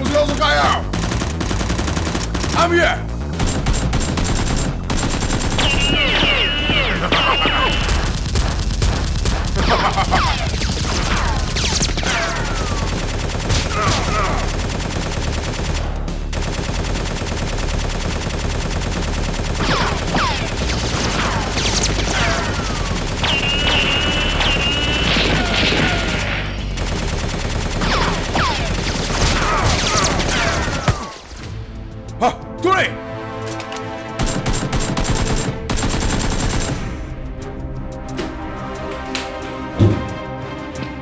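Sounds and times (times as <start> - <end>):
rapid automatic gunfire: 0.1 - 30.9, 34.2 - 36.9.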